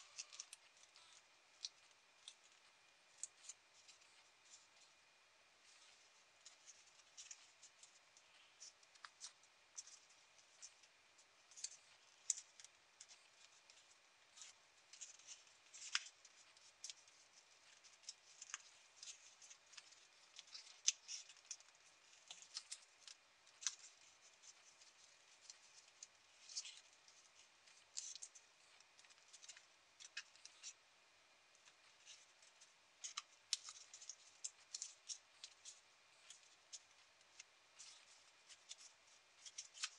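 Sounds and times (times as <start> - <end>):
paper crinkling: 0.0 - 39.9.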